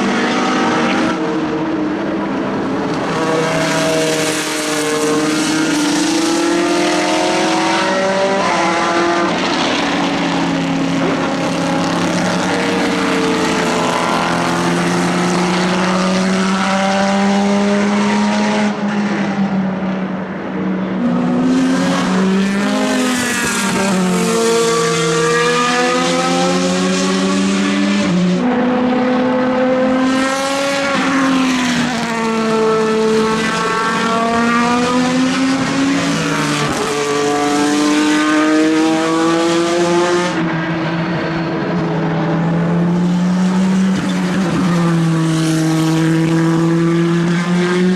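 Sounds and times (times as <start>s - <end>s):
race car engines passing: 0.0s - 47.9s.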